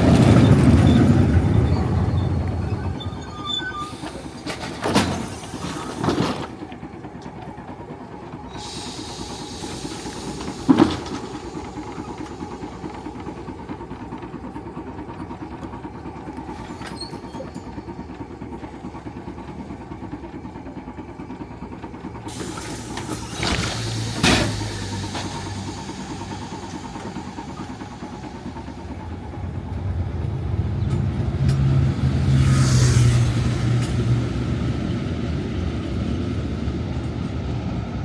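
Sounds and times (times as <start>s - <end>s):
sharp clacks of wheels: 0.0s - 37.9s
tram rumbling on rails: 0.0s - 38.0s.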